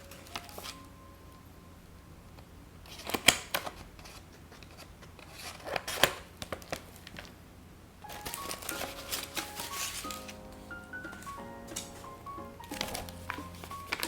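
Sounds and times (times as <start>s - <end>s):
paper crinkling and snapping: 0.0s - 0.9s, 2.8s - 7.4s, 8.0s - 14.0s.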